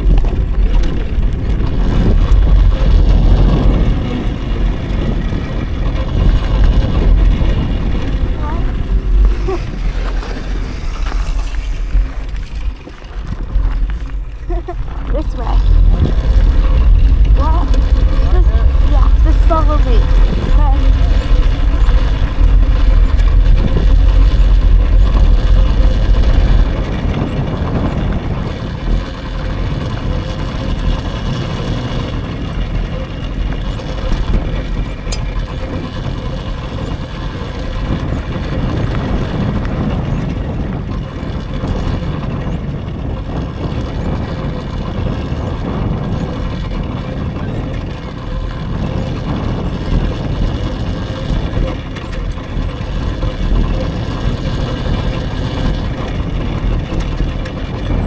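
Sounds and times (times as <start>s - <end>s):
dirt bike tyre noise: 0.0s - 58.0s
wind rushing over microphone: 0.0s - 58.0s.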